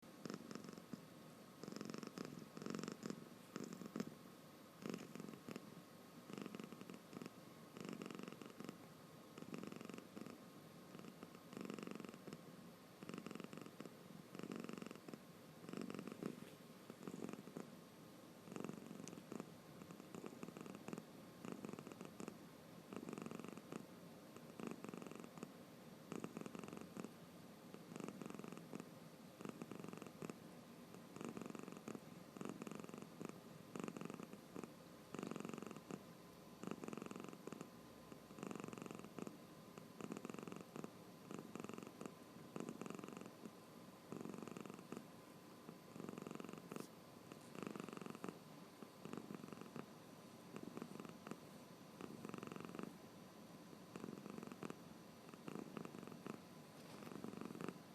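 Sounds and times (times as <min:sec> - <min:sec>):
cat snoring softly: 0:00.0 - 0:17.8, 0:18.4 - 0:53.0, 0:53.7 - 0:57.9.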